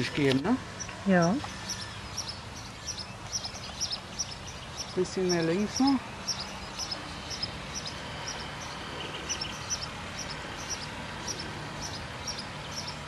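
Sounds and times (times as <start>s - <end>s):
bird chirping: 0.0s - 13.0s
steady outdoor hiss: 0.0s - 13.0s.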